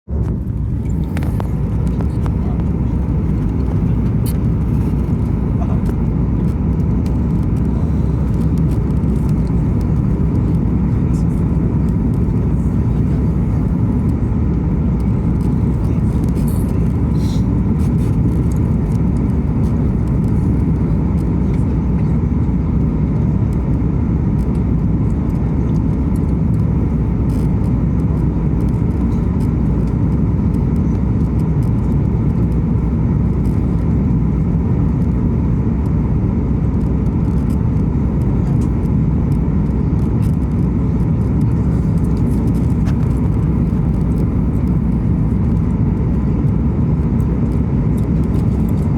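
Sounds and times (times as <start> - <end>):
airliner cabin jet engine roar: 0.1 - 48.9.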